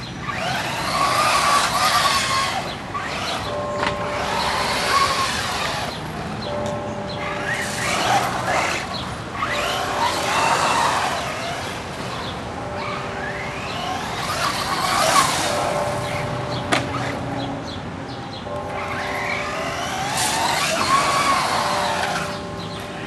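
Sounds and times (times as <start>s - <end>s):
rc truck motor whine: 0.0s - 12.2s, 12.8s - 17.3s, 18.5s - 23.0s.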